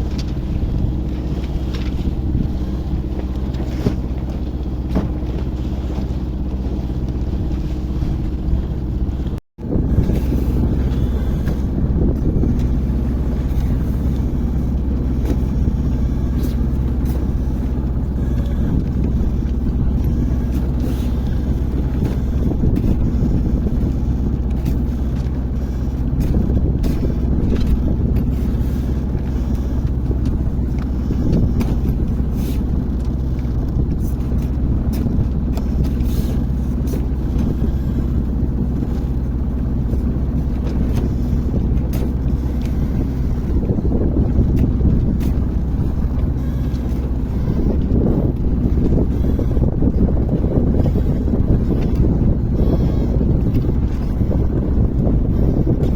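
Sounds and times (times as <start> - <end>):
wind on microphone: 0.0 - 55.9.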